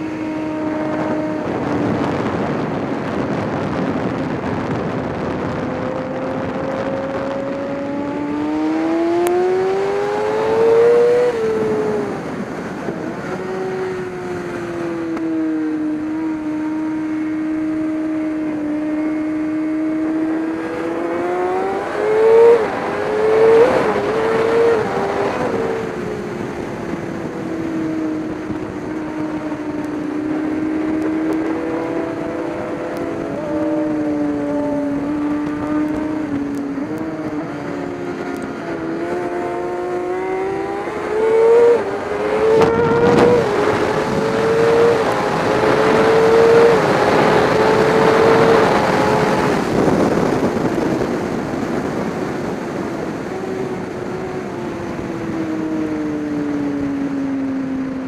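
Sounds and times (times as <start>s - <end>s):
race car engine accelerating: 0.0s - 57.9s.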